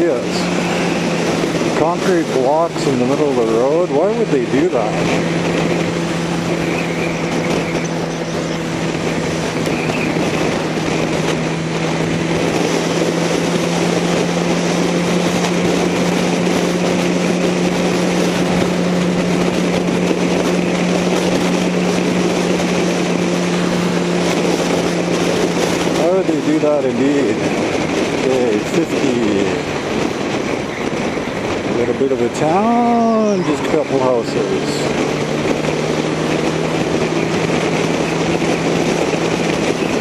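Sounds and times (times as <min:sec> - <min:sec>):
motorcycle engine droning: 0:00.0 - 0:40.0
wind rushing over microphone: 0:00.0 - 0:40.0.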